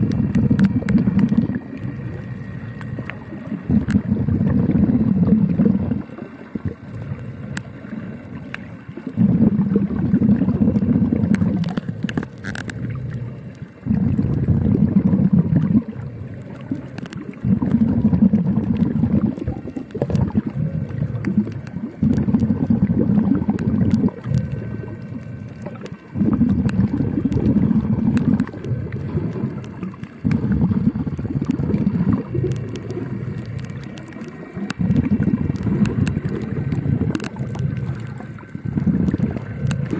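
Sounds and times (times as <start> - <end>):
faint clicks: 0.0 - 4.8, 5.4 - 39.9
exhaled bubbles underwater: 0.0 - 39.9.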